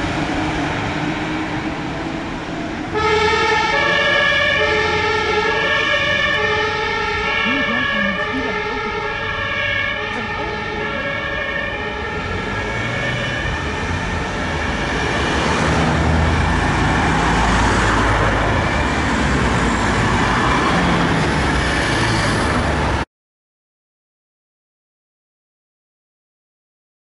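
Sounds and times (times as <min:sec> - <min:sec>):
two-tone fire engine siren: 0:00.0 - 0:23.0
city traffic noise: 0:00.0 - 0:23.1.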